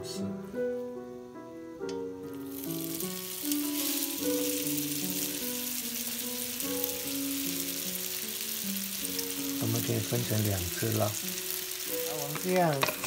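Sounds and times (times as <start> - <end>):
background music: 0.0 - 13.0
food sizzling in oil: 2.2 - 13.0.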